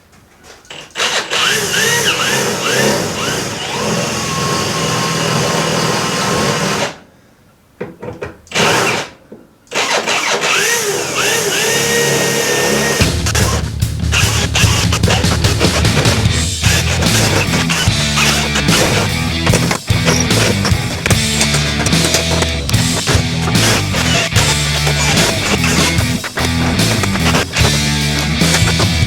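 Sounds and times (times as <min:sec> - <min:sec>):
electric drill cutting steel: 0:00.7 - 0:07.0, 0:09.7 - 0:29.0.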